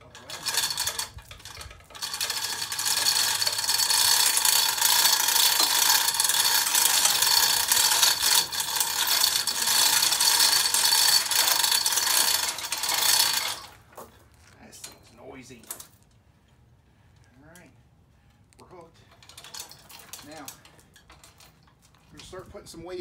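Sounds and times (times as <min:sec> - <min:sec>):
chain hoist ratcheting clatter: 0:00.0 - 0:16.2, 0:18.8 - 0:23.0.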